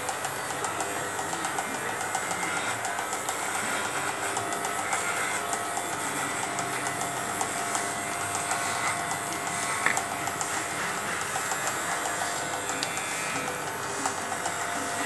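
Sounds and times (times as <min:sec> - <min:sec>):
electric pet clippers running: 0:00.0 - 0:15.0.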